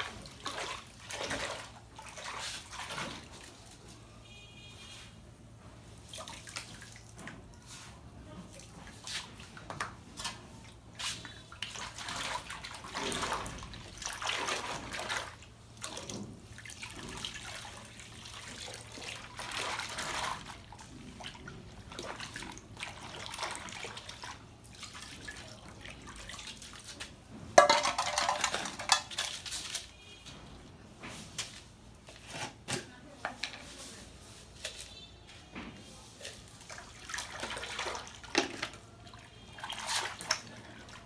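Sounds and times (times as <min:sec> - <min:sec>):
water sloshing in a container: 0:00.0 - 0:41.0.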